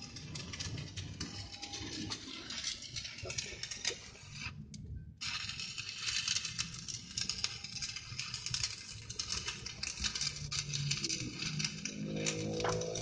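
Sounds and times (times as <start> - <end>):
welding arc crackling and popping: 0.0 - 13.0.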